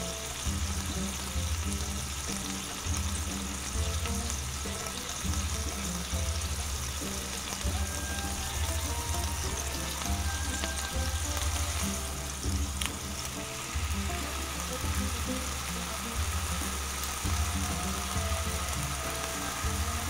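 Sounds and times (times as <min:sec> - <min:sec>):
sauce sizzling and bubbling: 0:00.0 - 0:20.0.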